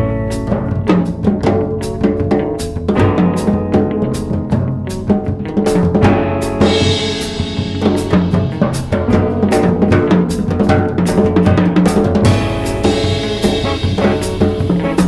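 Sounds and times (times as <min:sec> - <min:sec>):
background music: 0:00.0 - 0:15.0
drum kit steady beat: 0:00.0 - 0:15.0.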